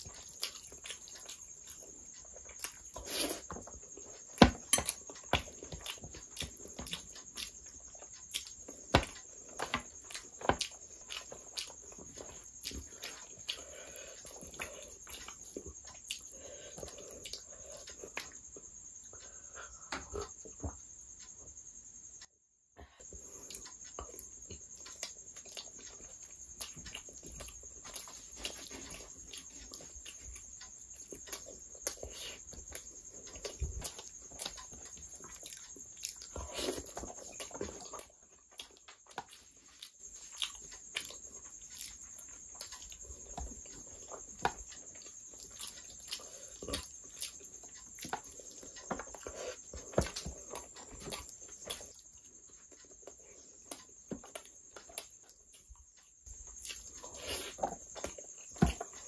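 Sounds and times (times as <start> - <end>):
person chewing and lip-smacking: 0.0 - 20.6, 23.0 - 59.0.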